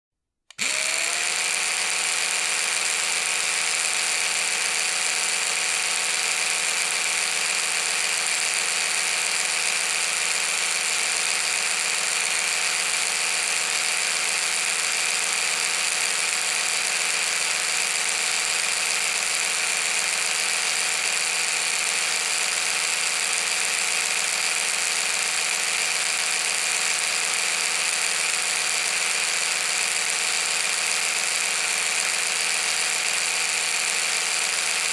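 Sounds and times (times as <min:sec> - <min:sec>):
electric toothbrush buzzing: 0:00.5 - 0:34.9.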